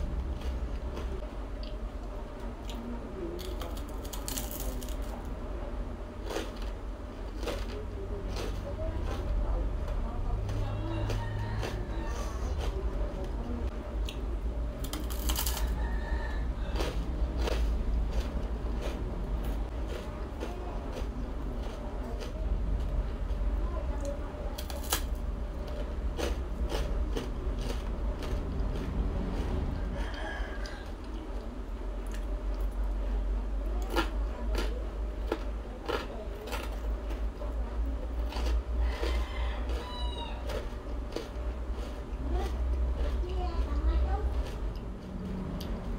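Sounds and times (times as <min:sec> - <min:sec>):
crunchy food chewing: 0:00.0 - 0:05.5, 0:06.1 - 0:45.9
steady low hum: 0:00.0 - 0:45.9.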